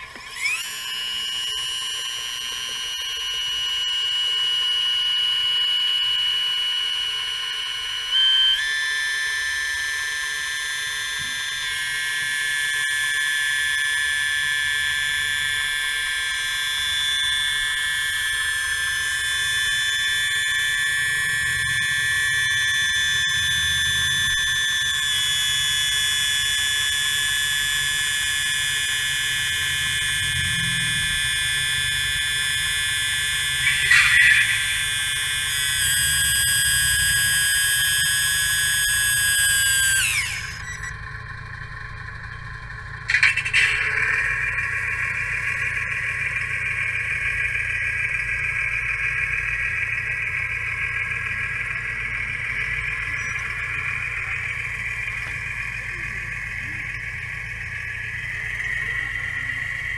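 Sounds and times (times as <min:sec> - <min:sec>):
steady high-pitched tones: 0:00.0 - 0:59.9.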